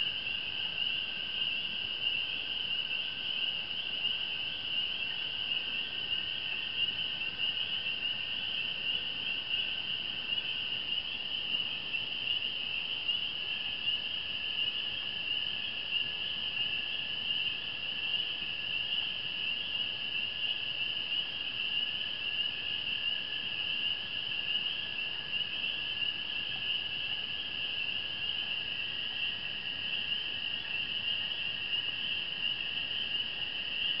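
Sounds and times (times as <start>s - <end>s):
frogs chorus peeping: 0.0s - 34.0s.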